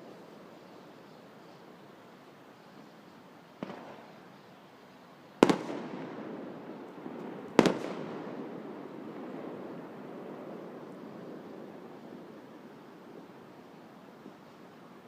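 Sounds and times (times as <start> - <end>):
fireworks bursting: 2.7 - 15.0.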